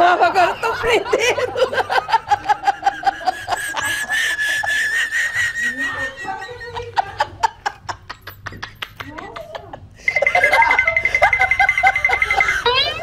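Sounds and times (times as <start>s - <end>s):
snickering laugh: 0.0s - 13.0s.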